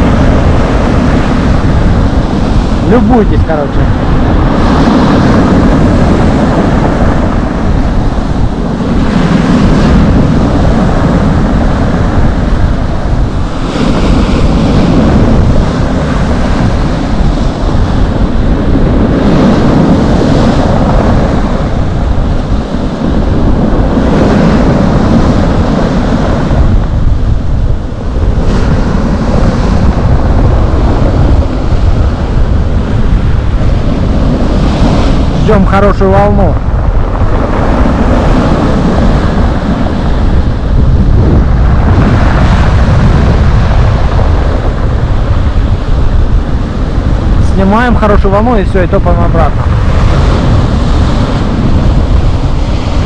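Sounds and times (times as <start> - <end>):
waves breaking on shore: 0.0 - 53.0
wind rumbling on microphone: 0.0 - 53.0.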